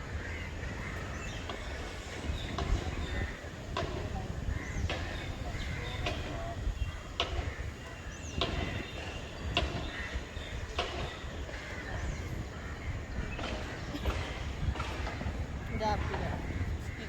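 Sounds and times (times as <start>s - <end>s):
footsteps on wooden boardwalk: 0.8s - 17.0s.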